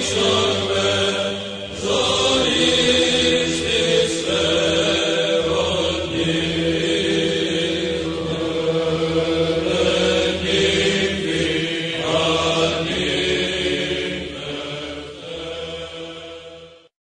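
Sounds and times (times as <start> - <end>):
liturgical chanting: 0.0 - 16.9.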